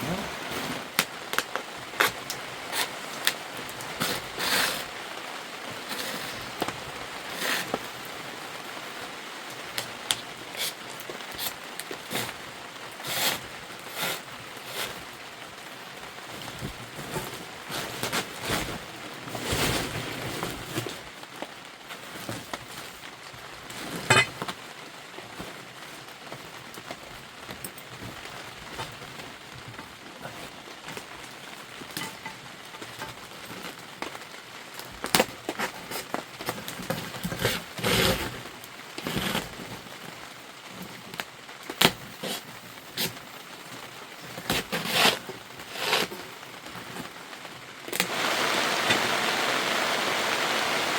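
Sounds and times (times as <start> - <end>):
steady rain hiss: 0.0 - 50.9.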